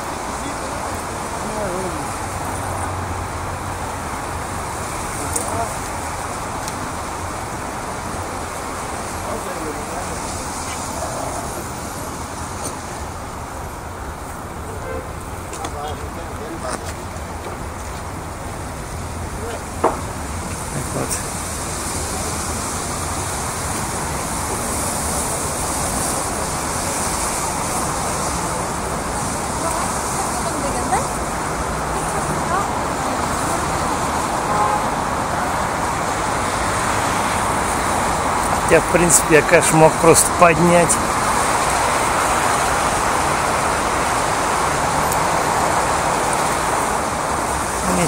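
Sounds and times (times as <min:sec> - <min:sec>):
cars driving on wet roads: 0:00.0 - 0:48.0
city street traffic: 0:00.0 - 0:48.0.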